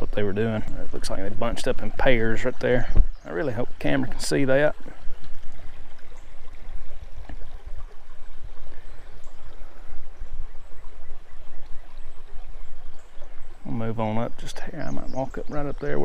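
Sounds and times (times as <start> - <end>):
creek water over rocks: 0.0 - 16.0
low water rumble: 0.0 - 16.0.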